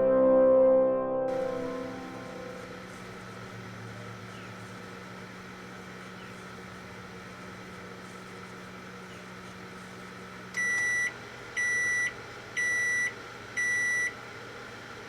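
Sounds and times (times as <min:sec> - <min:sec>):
microwave oven humming: 0:01.3 - 0:15.0.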